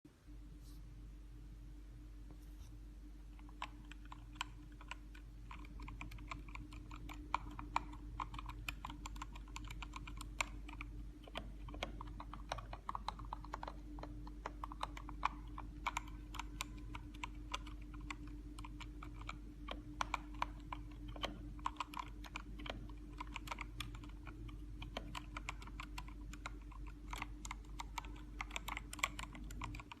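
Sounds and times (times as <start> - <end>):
steady low hum: 0.1 - 30.0
mechanical keyboard typing: 3.4 - 30.0.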